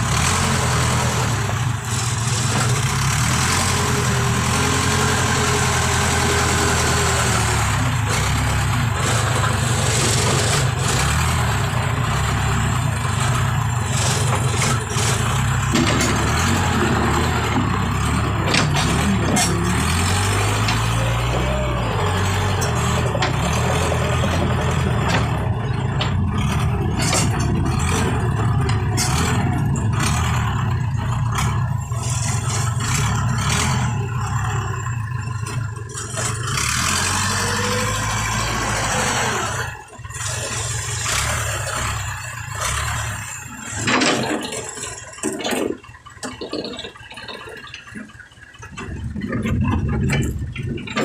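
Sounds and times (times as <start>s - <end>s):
heavy machine engine running: 0.0s - 51.0s.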